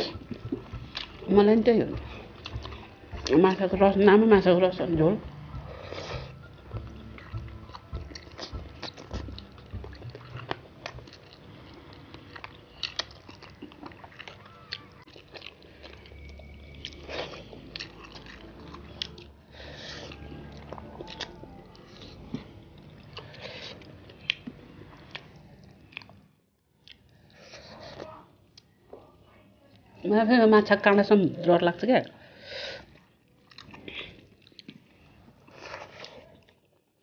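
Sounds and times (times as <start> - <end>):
people chewing food: 0.0 - 37.0.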